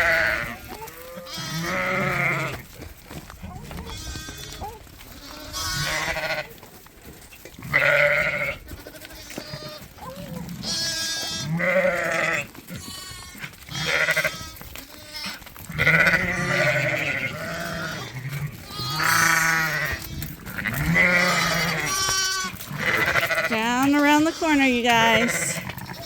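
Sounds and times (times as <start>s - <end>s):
sheep bleating: 0.0s - 2.6s, 3.6s - 6.6s, 7.6s - 26.0s.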